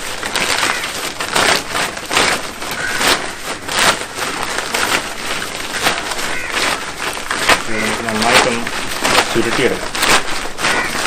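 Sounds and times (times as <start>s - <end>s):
plastic sack crinkling: 0.0s - 11.0s.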